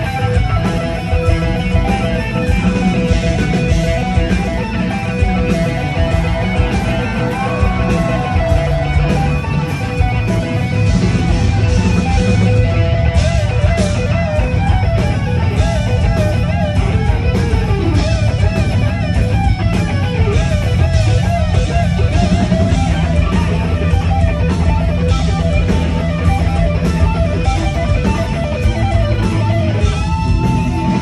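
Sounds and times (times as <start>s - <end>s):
drums hitting steadily: 0.0s - 31.0s
electric guitars playing lead lines: 0.0s - 31.0s.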